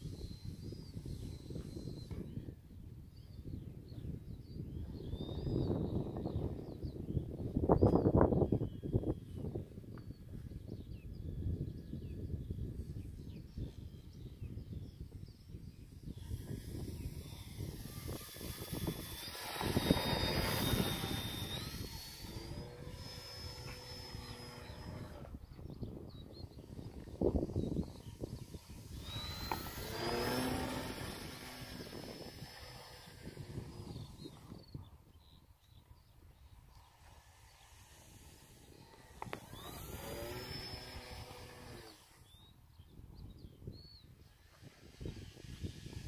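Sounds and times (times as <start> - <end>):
low wind rumble: 0.0 - 46.0
model aeroplane motor whining: 0.0 - 46.0.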